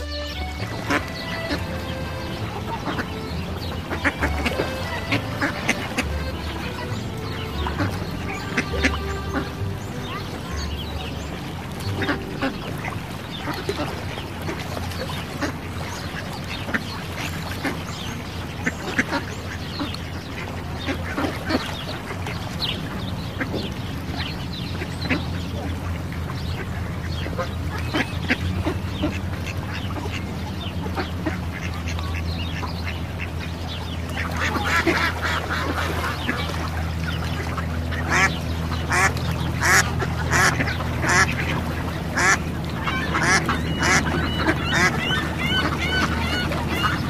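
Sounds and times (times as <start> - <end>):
ducks quacking: 0.0 - 47.0.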